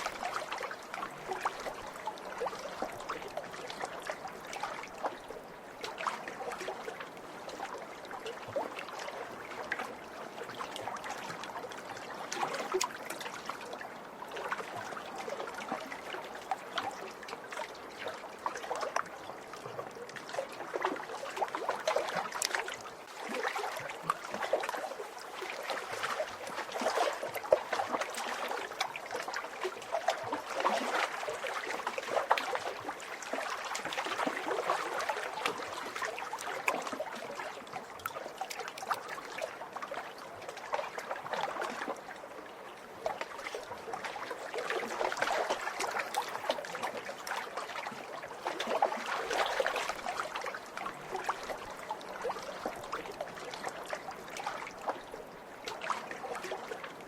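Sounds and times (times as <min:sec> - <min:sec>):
waves lapping against shore: 0:00.0 - 0:57.0.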